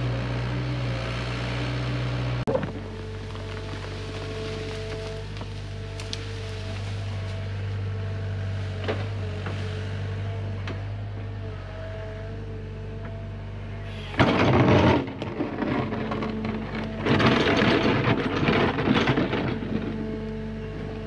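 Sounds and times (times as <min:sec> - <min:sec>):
excavator diesel engine running: 0:00.0 - 0:21.0
hydraulic whine: 0:00.0 - 0:21.0.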